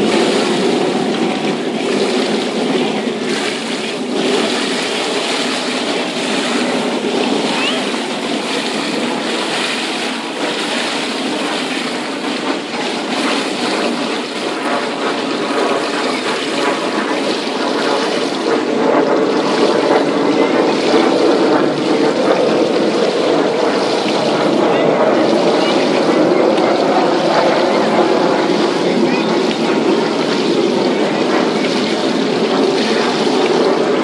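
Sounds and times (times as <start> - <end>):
swimmers splashing pool water: 0.0 - 34.0.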